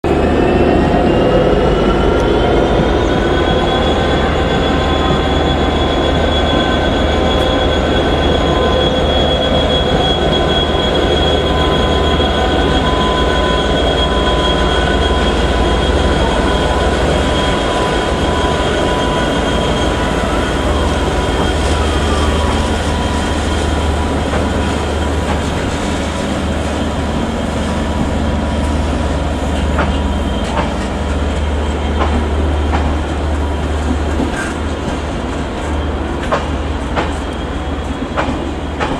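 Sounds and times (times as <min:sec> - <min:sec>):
steel wheels squealing: 0:00.2 - 0:38.9
rail joint clicks: 0:05.1 - 0:38.9.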